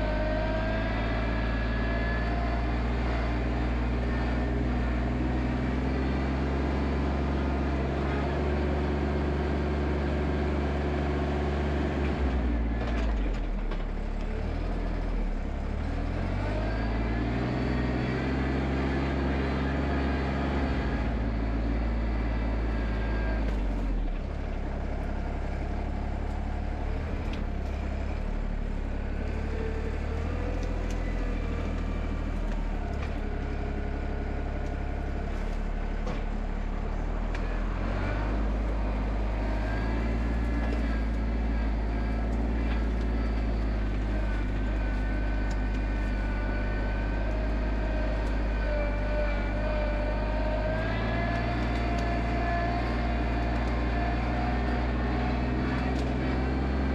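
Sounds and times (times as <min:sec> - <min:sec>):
diesel tractor engine running: 0:00.0 - 0:56.9.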